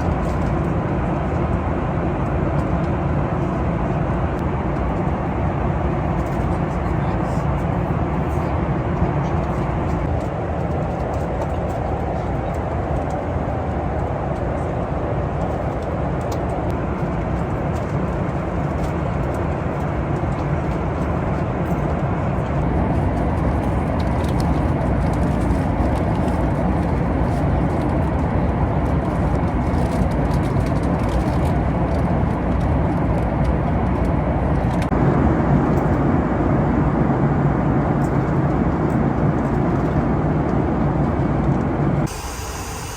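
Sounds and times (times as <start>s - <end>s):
airliner cabin noise: 0.0s - 42.9s.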